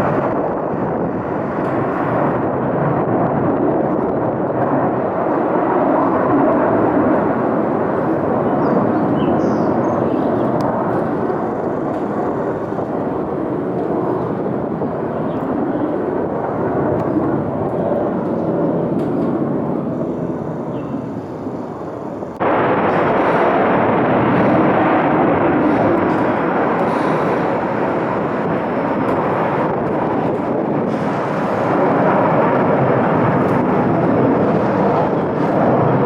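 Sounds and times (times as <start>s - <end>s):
fighter jets taking off: 0.0s - 36.0s.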